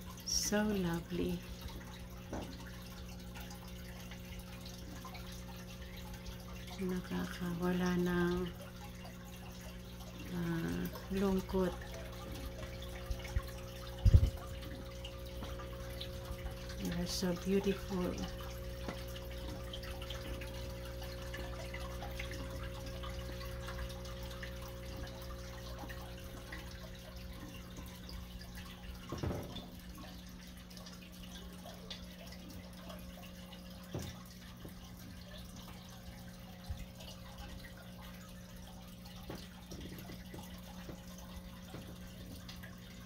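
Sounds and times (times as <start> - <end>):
low motor hum: 0.0 - 43.0
water trickling and splashing: 0.0 - 43.0.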